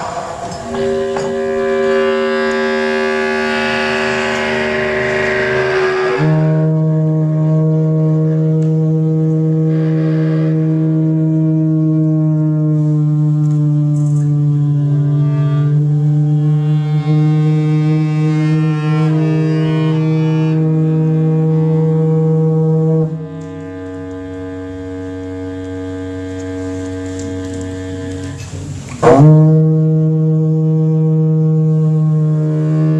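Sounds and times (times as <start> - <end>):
bass clarinet: 0.0 - 32.9
conch shell low note: 0.0 - 32.9.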